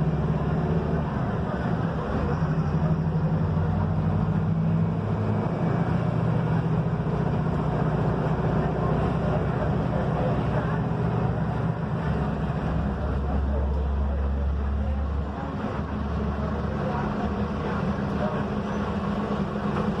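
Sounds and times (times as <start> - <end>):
bus engine drone: 0.0 - 20.0
road noise: 0.0 - 20.0.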